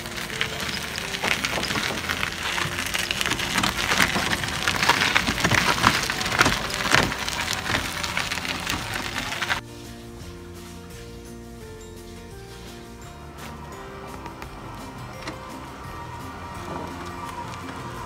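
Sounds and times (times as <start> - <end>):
tyres crunching over gravel: 0.0 - 18.0.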